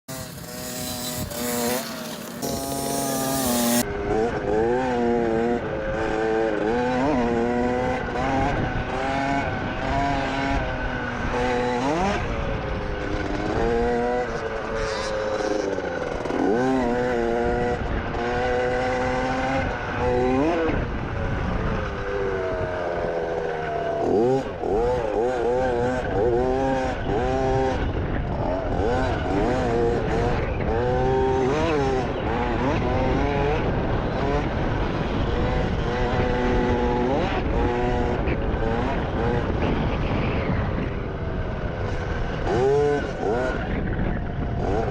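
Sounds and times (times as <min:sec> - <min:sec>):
dirt bike engine revving: 0:00.1 - 0:44.9.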